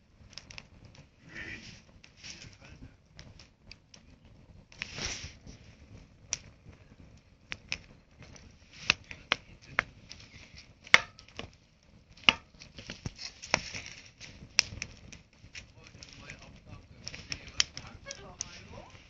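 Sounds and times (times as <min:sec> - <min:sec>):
campfire crackling: 0:00.0 - 0:19.0
soft hiss: 0:00.0 - 0:19.0.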